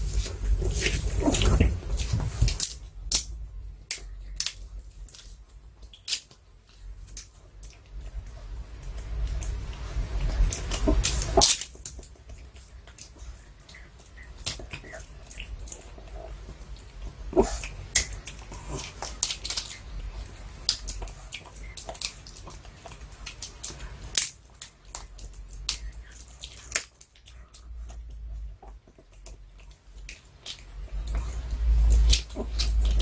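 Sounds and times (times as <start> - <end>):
dog crunching a chew: 0.0 - 33.0.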